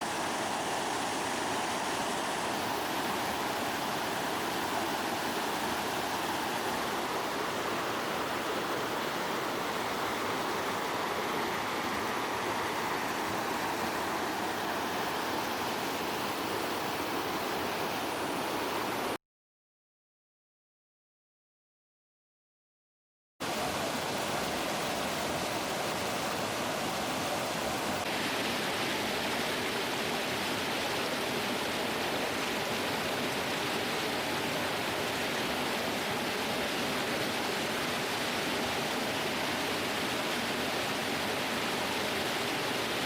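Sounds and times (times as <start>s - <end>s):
stream water rushing: 0.0s - 19.2s, 23.4s - 43.0s.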